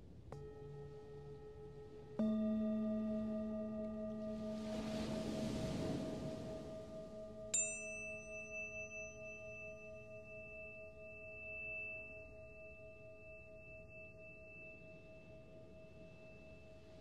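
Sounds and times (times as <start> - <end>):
tuning fork ringing: 0.1 - 17.0
singing bowls humming: 0.3 - 17.0.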